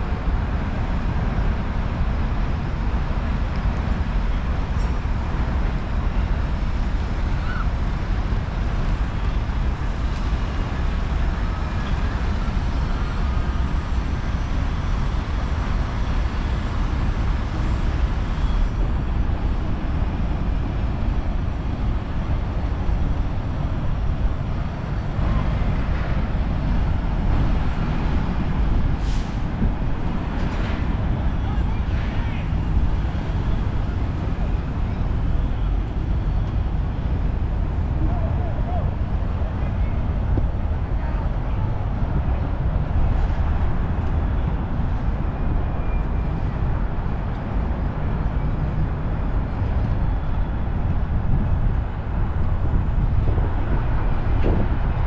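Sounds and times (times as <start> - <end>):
low rumble of city traffic: 0.0 - 55.0.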